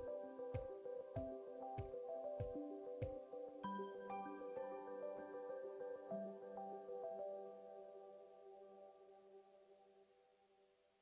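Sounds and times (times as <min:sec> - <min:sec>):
calm background melody: 0:00.0 - 0:10.1.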